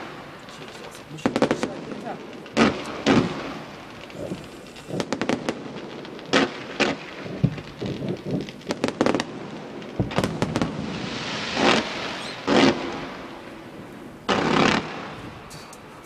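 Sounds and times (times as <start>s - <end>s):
deep firework booms: 0.0s - 15.5s
firework crackling: 0.0s - 16.0s
firework shell bursts: 0.0s - 16.0s.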